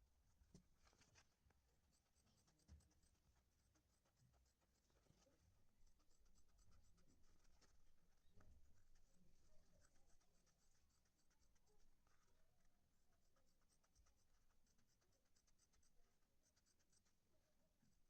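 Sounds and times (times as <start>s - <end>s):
rapid faint scratching strokes: 0.0s - 18.0s.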